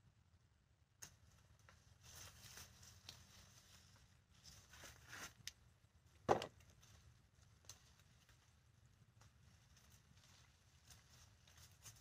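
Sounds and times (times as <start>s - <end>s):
rustling of plant leaves: 1.0s - 5.5s, 6.6s - 12.0s.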